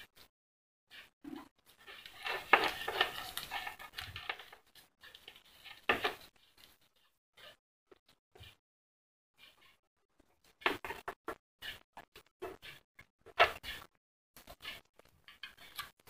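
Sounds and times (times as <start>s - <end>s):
wires rustling and clicking: 0.9s - 8.6s, 9.4s - 16.0s.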